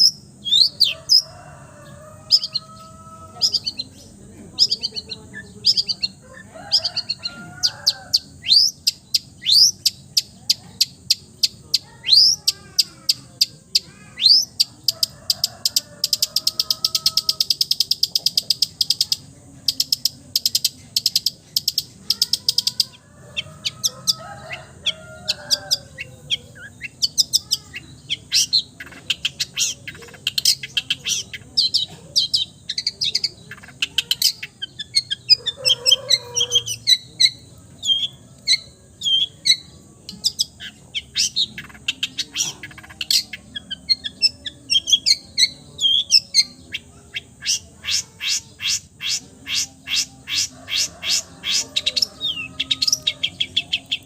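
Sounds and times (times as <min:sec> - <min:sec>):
shrike singing: 0:00.0 - 0:54.0.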